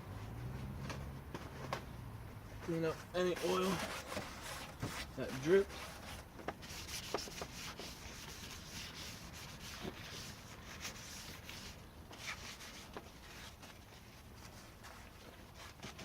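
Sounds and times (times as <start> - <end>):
cloth rubbing on engine: 0.0 - 16.0.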